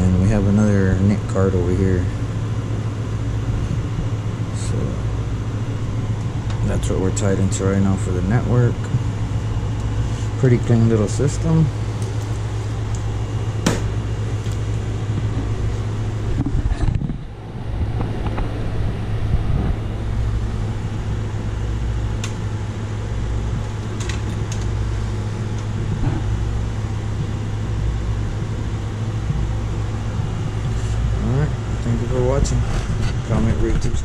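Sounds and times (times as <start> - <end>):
computer fans humming: 0.0 - 34.0.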